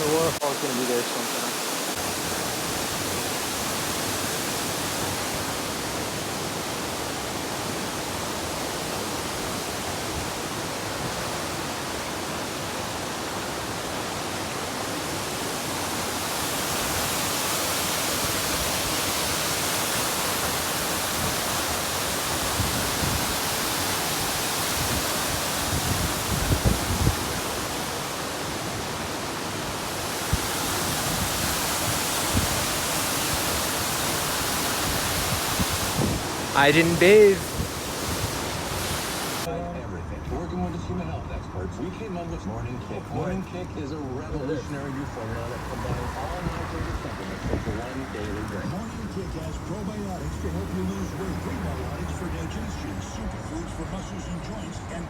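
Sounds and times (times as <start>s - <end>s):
falling water rushing: 0.0s - 39.5s, 44.9s - 54.1s.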